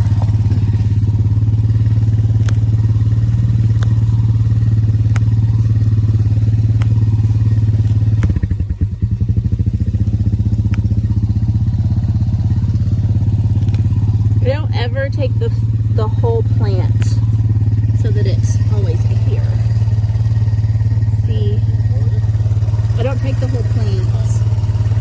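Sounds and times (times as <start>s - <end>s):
atv engine humming: 0.0s - 25.0s
sharp ticks: 0.0s - 25.0s.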